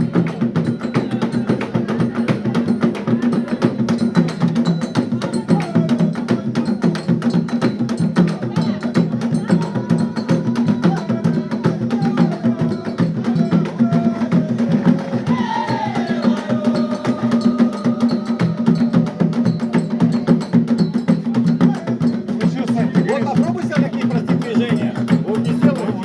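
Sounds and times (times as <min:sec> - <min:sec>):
fast dense drumming: 0:00.0 - 0:26.0
sharp clacking wood-block percussion: 0:00.0 - 0:26.0.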